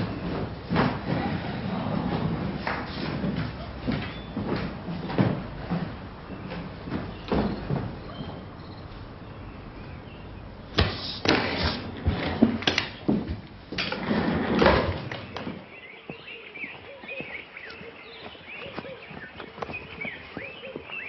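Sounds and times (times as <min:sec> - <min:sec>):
birds chirping: 0:00.0 - 0:12.0, 0:12.8 - 0:21.0.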